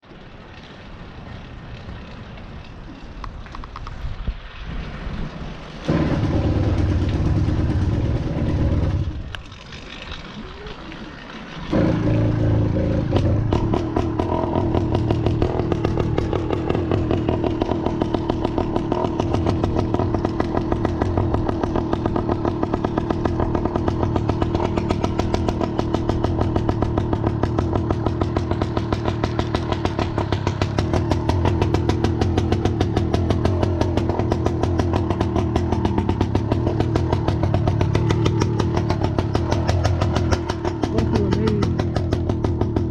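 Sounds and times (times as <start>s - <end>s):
small two-stroke engine running: 5.9s - 42.9s.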